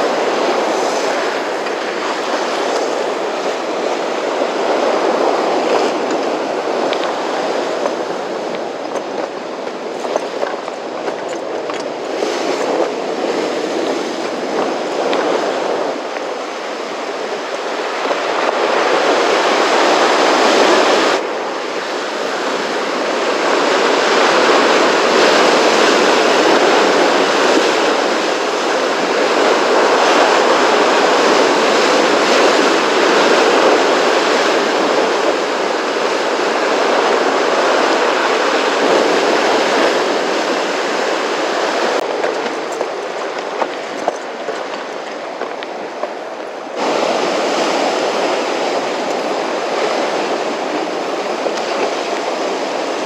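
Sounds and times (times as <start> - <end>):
loud surf washing: 0.0 - 53.0.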